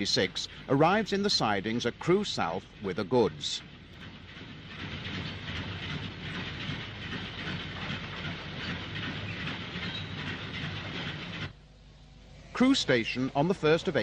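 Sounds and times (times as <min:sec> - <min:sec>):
steam train running on rails: 0:00.0 - 0:14.0.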